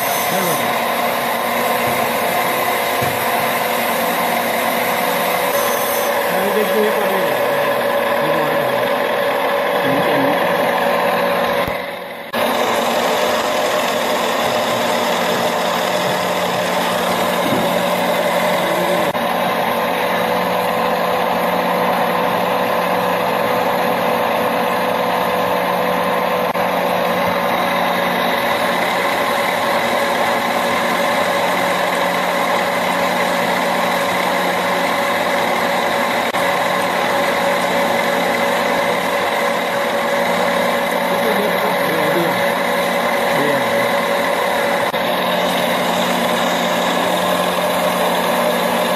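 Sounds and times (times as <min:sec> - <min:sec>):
cutting oil hissing: 0:00.0 - 0:48.9
gear hobbing machine humming: 0:00.0 - 0:48.9.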